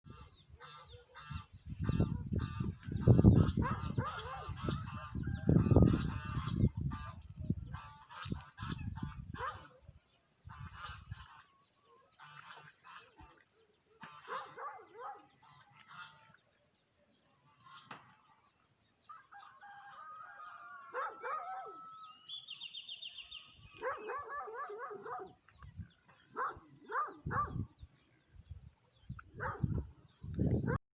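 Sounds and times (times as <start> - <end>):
farm birds calling: 0.1 - 30.8.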